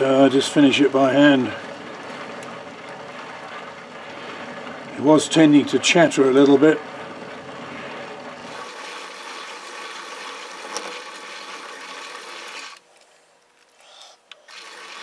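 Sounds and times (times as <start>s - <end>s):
metal lathe running: 0.0s - 12.8s, 14.4s - 15.0s.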